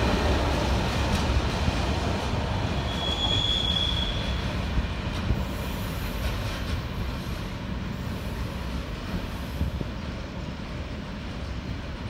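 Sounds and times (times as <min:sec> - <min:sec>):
freight train wagons rumbling: 0:00.0 - 0:12.0.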